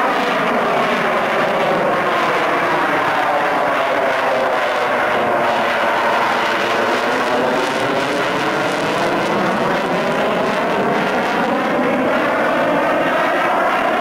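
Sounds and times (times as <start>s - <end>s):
fighter jet engine roaring overhead: 0.0s - 14.0s.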